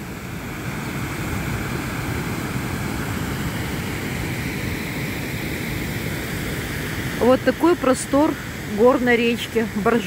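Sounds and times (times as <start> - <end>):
river water rushing over weir: 0.0 - 10.0.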